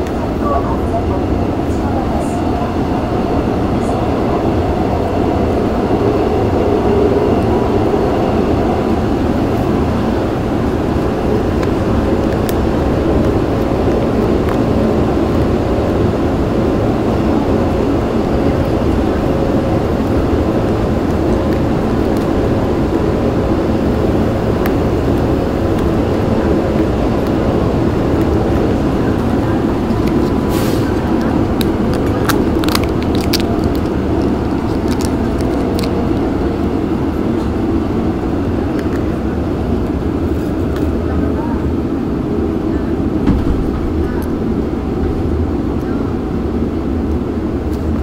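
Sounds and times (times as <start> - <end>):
subway train rumbling: 0.0 - 48.0.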